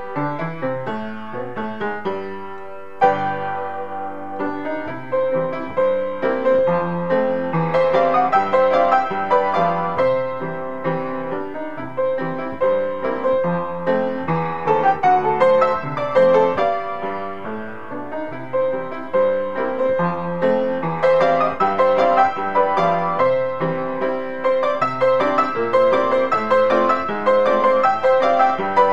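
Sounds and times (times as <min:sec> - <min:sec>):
piano piece: 0:00.0 - 0:28.9.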